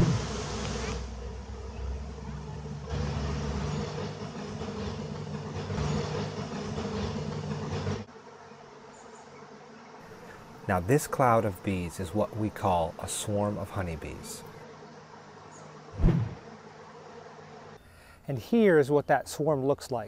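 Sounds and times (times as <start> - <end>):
bee swarm buzzing: 0.0 - 17.8.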